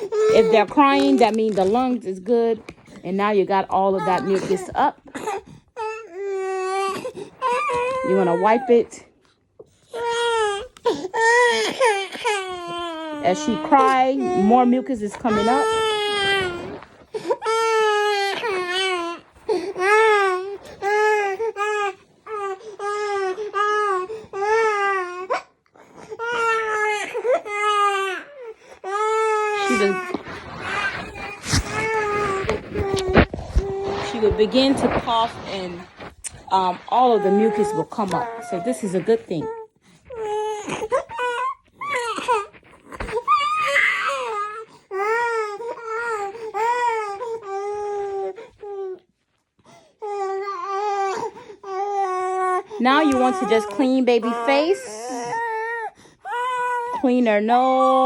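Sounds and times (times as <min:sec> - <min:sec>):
baby crying: 0:03.7 - 0:09.1, 0:09.9 - 0:49.0, 0:50.0 - 0:58.0.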